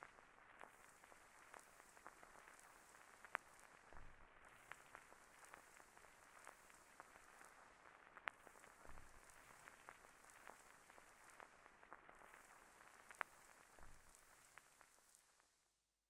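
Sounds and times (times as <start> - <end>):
faint hiss: 0.0 - 15.9.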